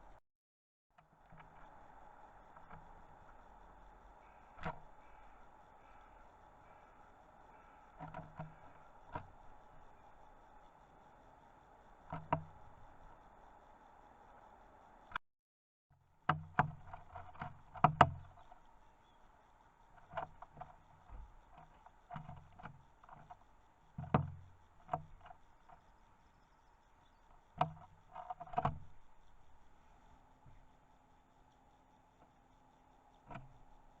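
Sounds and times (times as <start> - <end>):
birds tapping on feeder: 1.0 - 15.2, 16.1 - 34.0.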